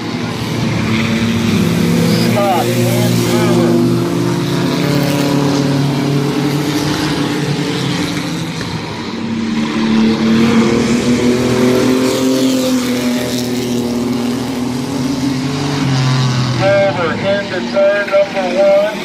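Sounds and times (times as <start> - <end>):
race truck engines passing: 0.0 - 19.0.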